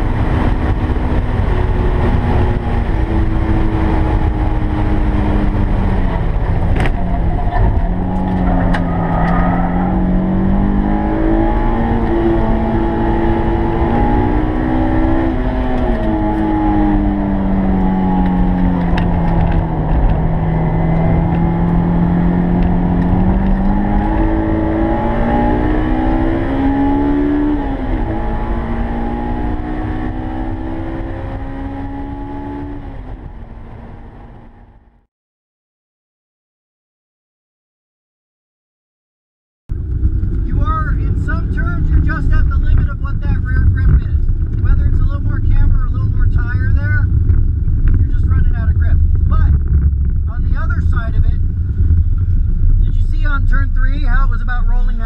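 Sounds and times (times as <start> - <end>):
car engine revving: 0.0 - 34.8, 39.7 - 55.0
road and wind rumble: 0.0 - 35.1, 39.7 - 55.0.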